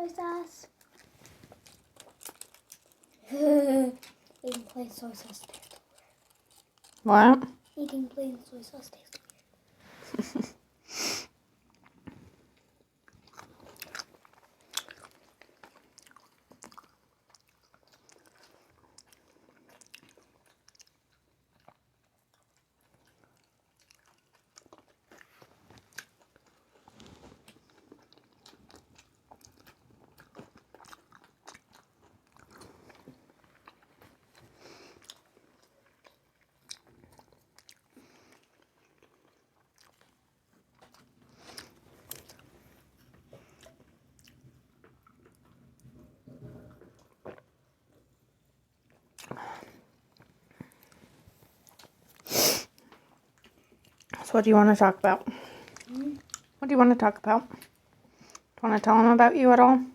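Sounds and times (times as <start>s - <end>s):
biting and chewing food: 0.2s - 10.2s, 11.6s - 54.2s, 55.3s - 56.6s.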